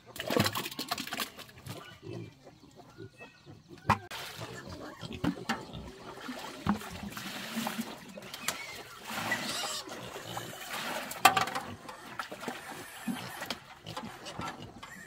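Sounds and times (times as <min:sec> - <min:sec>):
splashing at pig trough: 0:00.0 - 0:02.3, 0:03.8 - 0:15.0.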